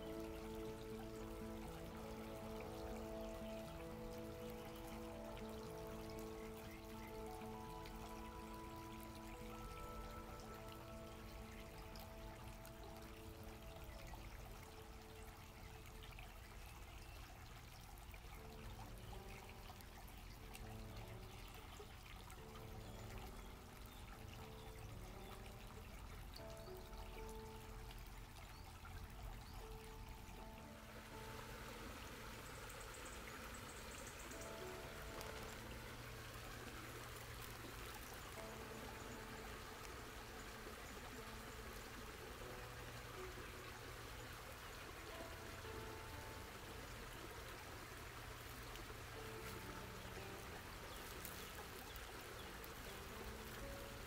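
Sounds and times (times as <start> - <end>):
creek trickling over rocks: 0.0 - 54.0.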